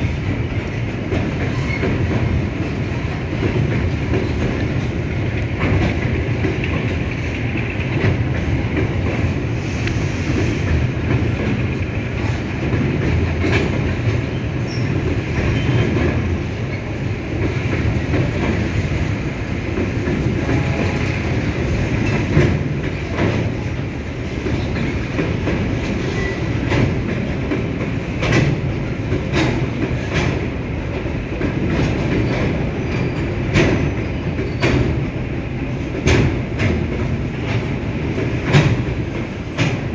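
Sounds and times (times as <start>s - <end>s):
rumble of train wheels on rails: 0.0s - 39.9s
wheels clacking over rail joints: 0.0s - 39.9s.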